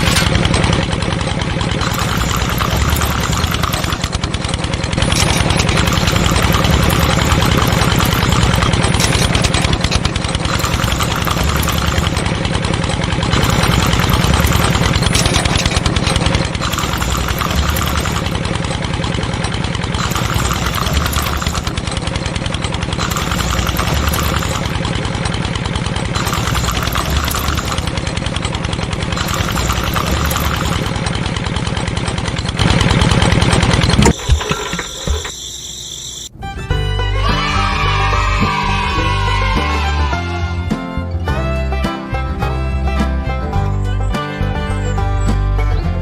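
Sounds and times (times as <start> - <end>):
small tractor engine running: 0.0 - 46.0.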